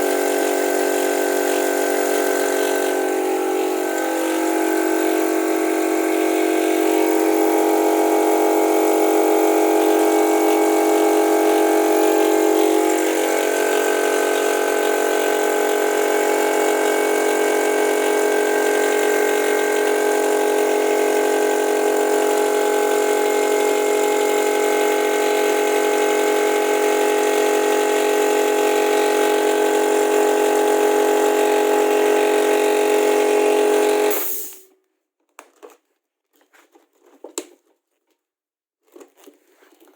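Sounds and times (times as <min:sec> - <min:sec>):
air compressor drone: 0:00.0 - 0:34.7.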